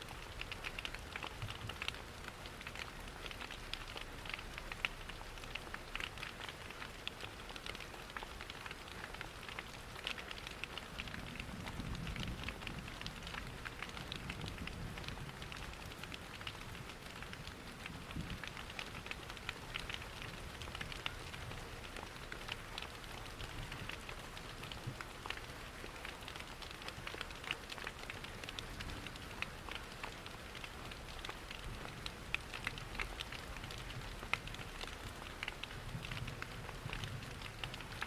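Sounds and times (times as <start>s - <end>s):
rain pattering: 0.0s - 38.0s
wood fire crackling: 0.0s - 38.0s.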